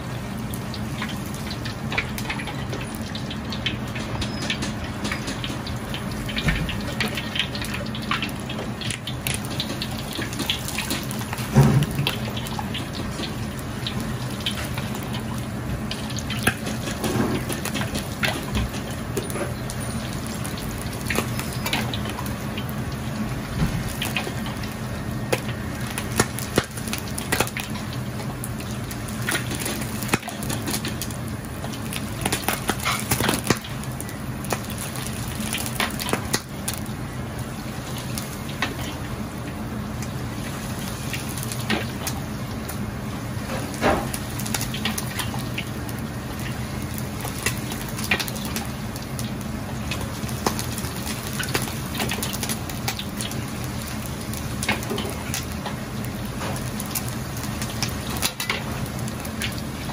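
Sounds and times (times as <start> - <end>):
hot oil pouring and splashing: 0.0 - 59.9
oil crackling and popping: 0.0 - 59.9.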